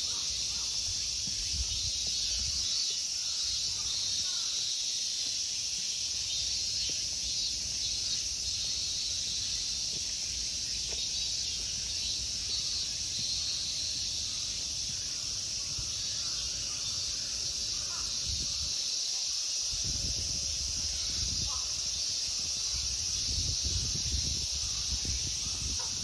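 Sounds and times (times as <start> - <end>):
insects buzzing shrilly: 0.0 - 26.0.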